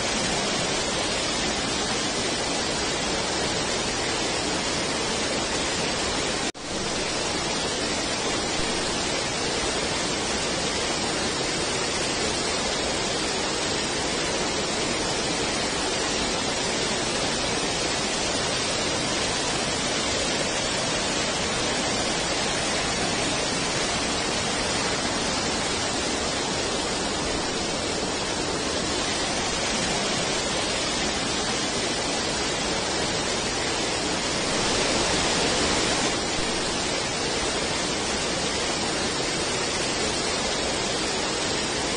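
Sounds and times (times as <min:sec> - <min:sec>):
waterfall rushing over rock: 0:00.0 - 0:41.9.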